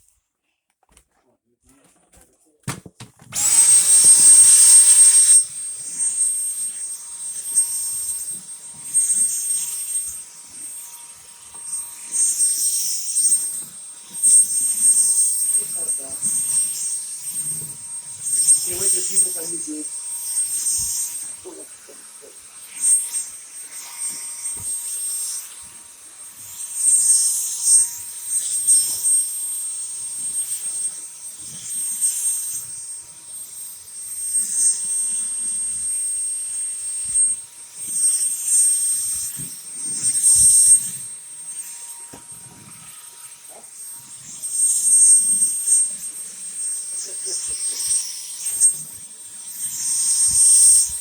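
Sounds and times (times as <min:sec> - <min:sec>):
stick vacuum whining: 0:02.6 - 0:51.0.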